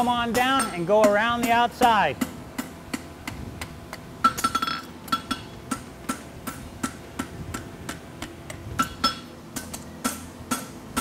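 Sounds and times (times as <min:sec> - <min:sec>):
hammer striking hot metal on anvil: 0:00.0 - 0:11.0.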